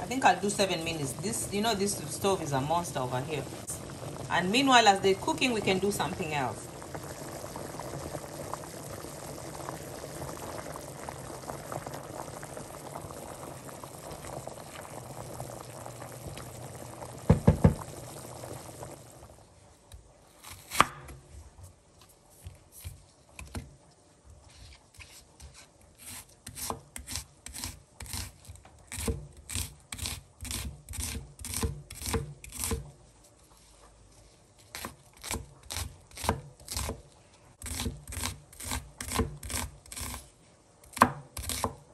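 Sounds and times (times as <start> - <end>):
pot boiling and bubbling: 0.0 - 41.9.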